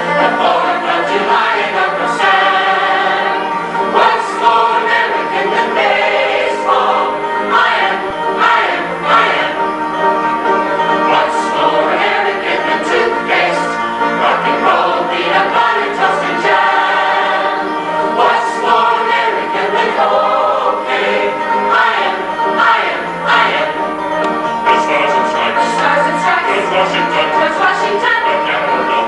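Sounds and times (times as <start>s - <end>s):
women's choir singing: 0.0s - 9.8s, 10.7s - 29.0s.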